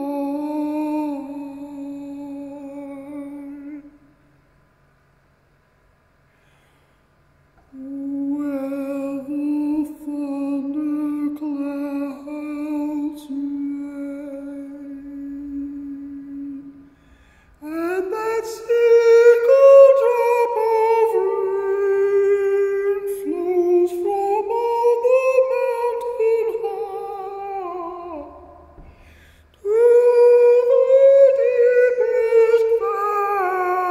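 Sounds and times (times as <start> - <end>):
man singing wordless notes: 0.0 - 4.1, 7.7 - 16.9, 17.6 - 28.9, 29.5 - 33.9.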